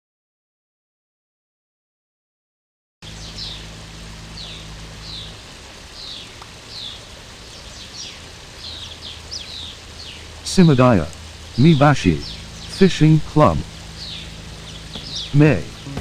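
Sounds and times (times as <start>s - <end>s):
background hiss: 3.0s - 16.0s
bird chirping: 3.0s - 16.0s
low steady hum: 3.0s - 16.0s.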